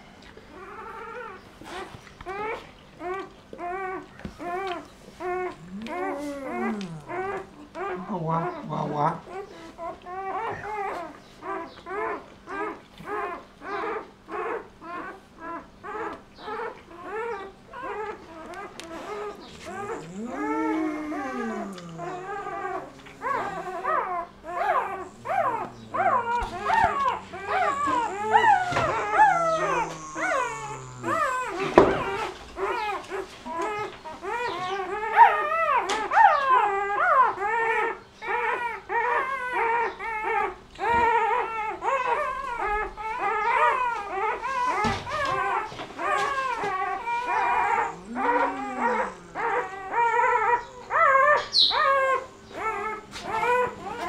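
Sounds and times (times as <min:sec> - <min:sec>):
puppies squealing and whining: 0:00.0 - 0:54.0.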